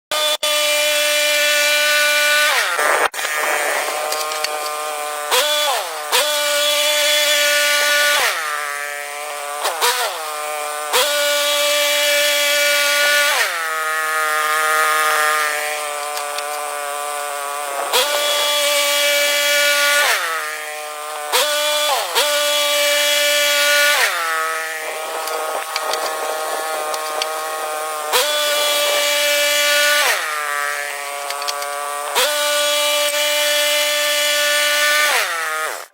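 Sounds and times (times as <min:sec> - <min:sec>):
wood saw cutting: 0:00.1 - 0:35.9.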